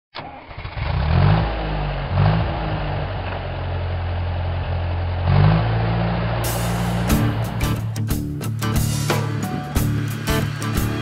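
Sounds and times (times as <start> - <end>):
large engine revving: 0.2 - 8.0, 8.8 - 11.0.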